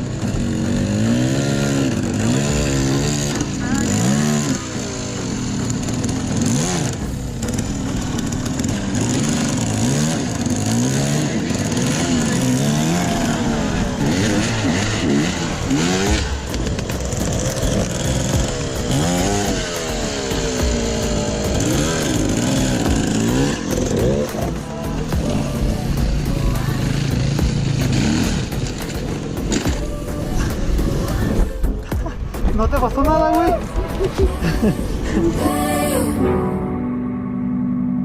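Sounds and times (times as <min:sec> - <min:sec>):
dirt bike engine revving: 0:00.0 - 0:36.5.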